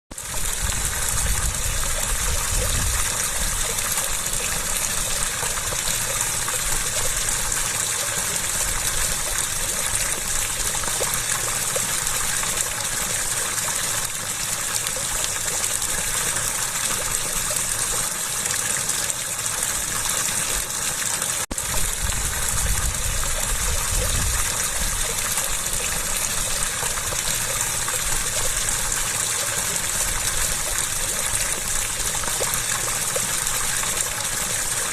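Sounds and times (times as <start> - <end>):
flowing water rushing: 0.1 - 34.9.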